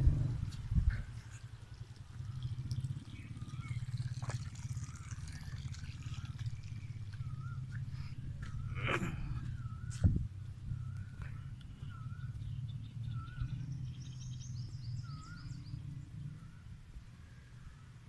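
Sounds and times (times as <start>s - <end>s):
low rumble on microphone: 0.0s - 18.0s
small birds chirping: 0.4s - 18.0s.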